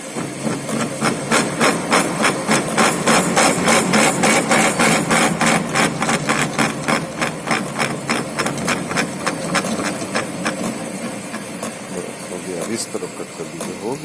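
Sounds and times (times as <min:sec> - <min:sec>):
lathe ticking: 0:00.0 - 0:14.0.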